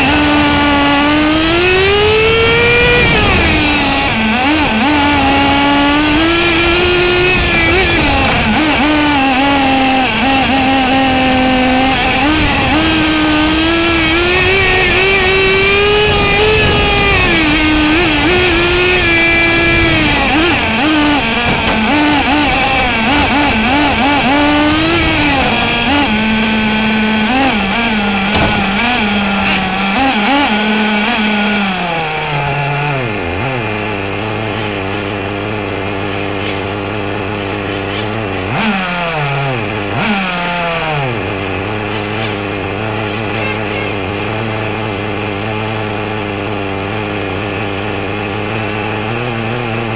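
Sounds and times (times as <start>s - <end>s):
small rc car engine revving: 0.0s - 49.9s.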